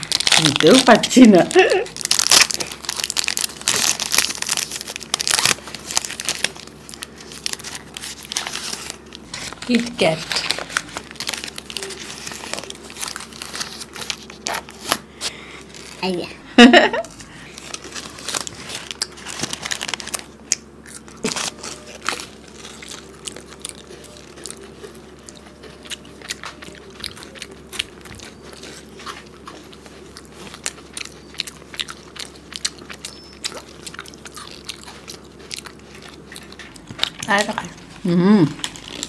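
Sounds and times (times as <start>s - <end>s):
crunching chocolate wafers: 0.0s - 16.2s, 17.0s - 39.0s.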